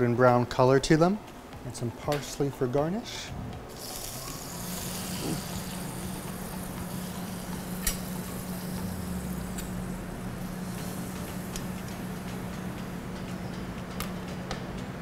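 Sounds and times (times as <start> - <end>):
kitchen equipment hum and hiss: 0.0 - 15.0.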